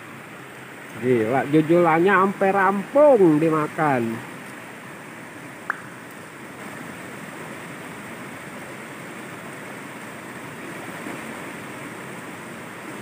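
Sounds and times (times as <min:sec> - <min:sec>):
water rushing along channel: 0:00.0 - 0:13.0.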